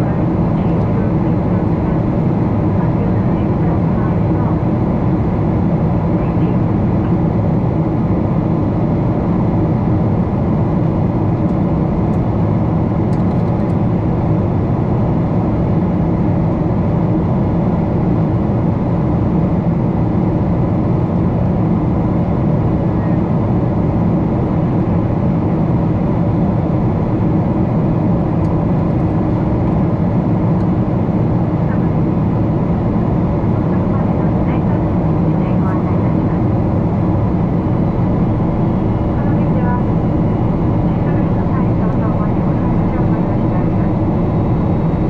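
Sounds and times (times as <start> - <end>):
airliner cabin engine rumble: 0.0 - 45.0.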